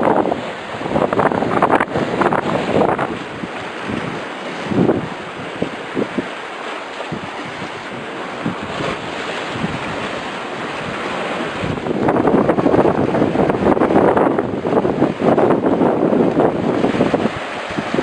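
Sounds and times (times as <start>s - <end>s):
wind buffeting microphone: 0.0s - 6.4s, 7.0s - 18.0s
sea waves: 0.0s - 18.0s.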